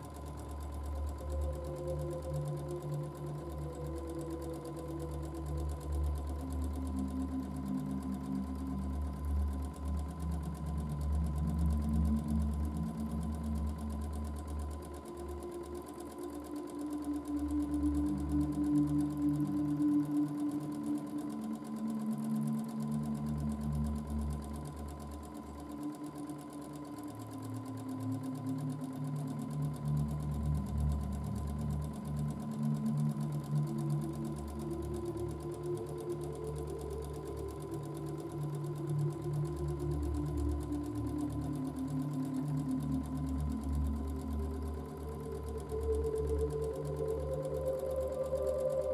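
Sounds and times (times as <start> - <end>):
sewing machine running: 0.0 - 48.9.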